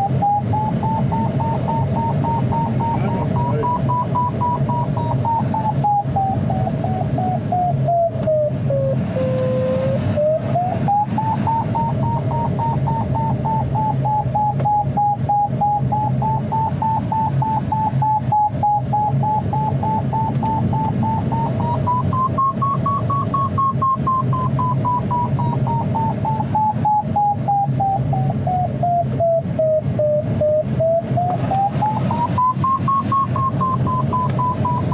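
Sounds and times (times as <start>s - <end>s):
steady airflow noise: 0.0s - 34.9s
variometer beeps: 0.0s - 34.9s.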